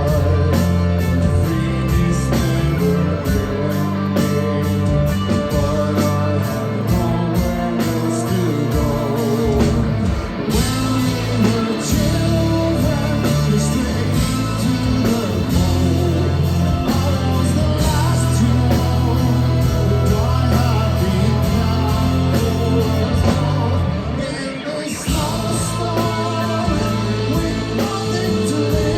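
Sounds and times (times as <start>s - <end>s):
live rock band playing: 0.0s - 28.9s
person singing: 0.0s - 28.9s.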